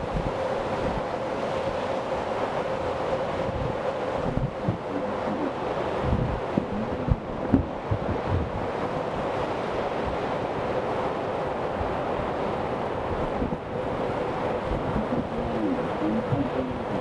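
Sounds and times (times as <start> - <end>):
faint steady hum: 0.0 - 17.0
road and wind noise: 0.0 - 17.0.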